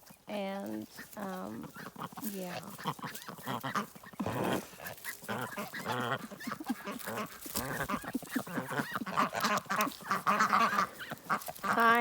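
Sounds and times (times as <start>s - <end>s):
waterfowl calling: 0.3s - 12.0s.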